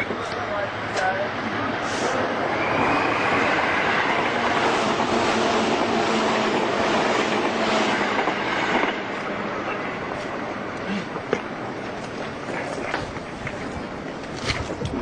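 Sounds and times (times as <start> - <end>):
train rushing rumble: 0.0 - 15.0.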